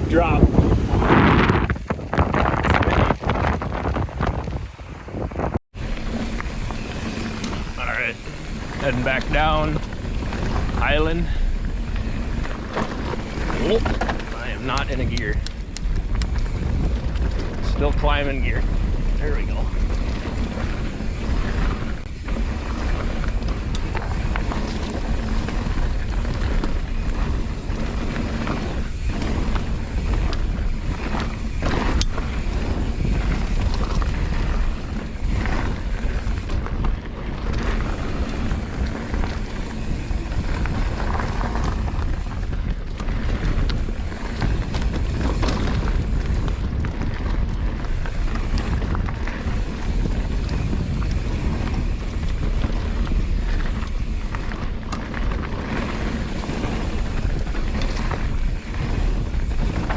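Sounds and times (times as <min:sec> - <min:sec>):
bike tyres rolling on dirt: 0:00.0 - 0:59.9
wind buffeting microphone: 0:00.0 - 0:59.9.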